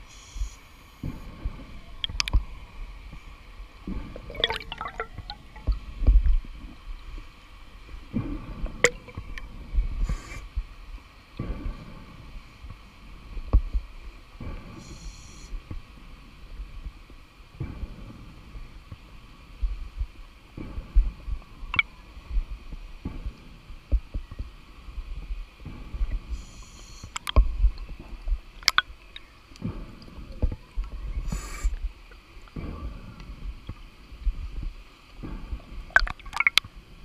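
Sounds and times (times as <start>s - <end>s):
underwater rumble: 0.0s - 37.0s.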